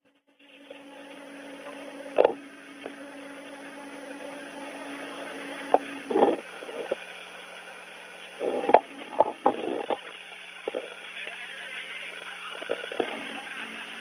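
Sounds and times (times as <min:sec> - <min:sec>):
ventilation hum: 0:00.3 - 0:14.0.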